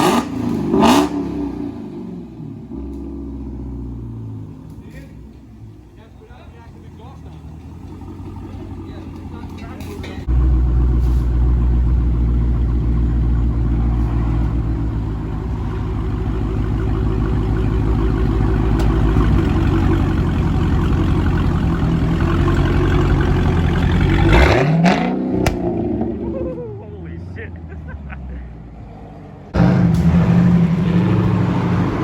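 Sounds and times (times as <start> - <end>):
car exhaust drone: 0.0 - 28.4.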